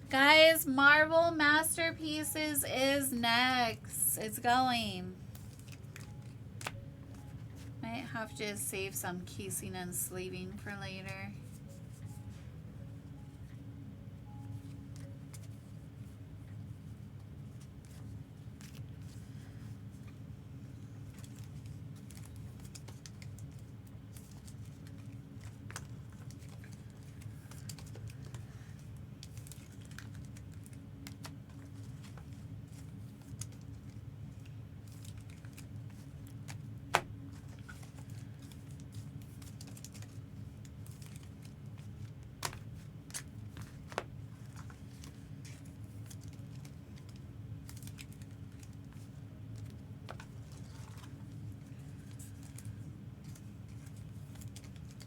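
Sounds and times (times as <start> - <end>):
steady low hum: 0.0 - 55.0
trading cards and sleeves handled: 0.2 - 13.6, 14.4 - 55.0.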